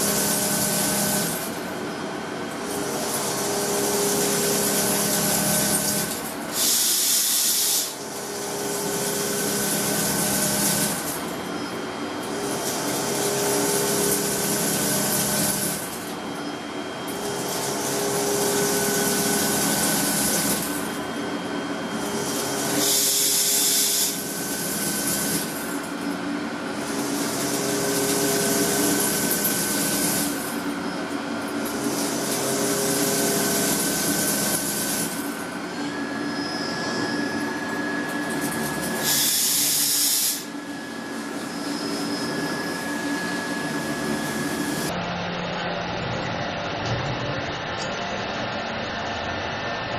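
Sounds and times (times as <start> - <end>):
machinery humming: 0.0 - 49.9.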